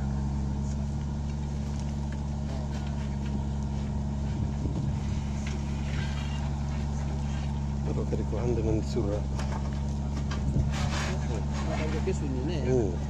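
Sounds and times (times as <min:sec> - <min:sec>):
clatter of earth and stones: 0:00.0 - 0:13.0
excavator diesel engine drone: 0:00.0 - 0:13.0
bucket dragging soil: 0:01.2 - 0:09.0, 0:09.6 - 0:12.7.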